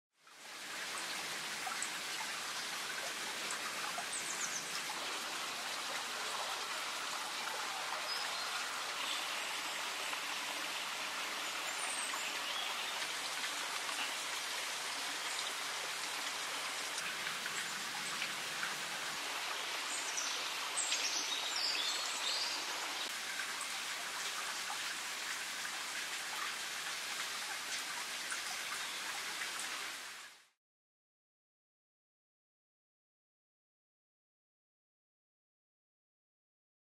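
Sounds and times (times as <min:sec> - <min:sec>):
steady outdoor hiss: 0:00.2 - 0:30.6.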